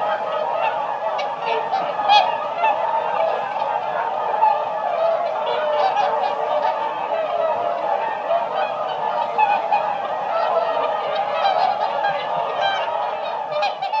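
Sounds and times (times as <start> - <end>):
swans honking: 0.0 - 14.0.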